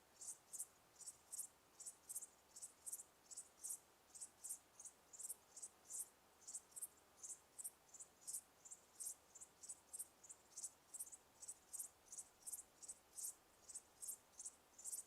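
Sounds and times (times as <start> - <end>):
crickets chirping faintly: 0.0 - 15.0
faint steady hiss: 0.0 - 15.0.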